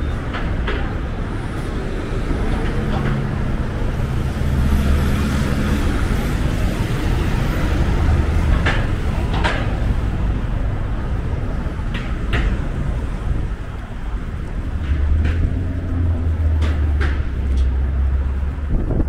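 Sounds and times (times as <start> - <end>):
engine hum: 0.0 - 19.0
traffic engines rumbling: 0.0 - 19.0.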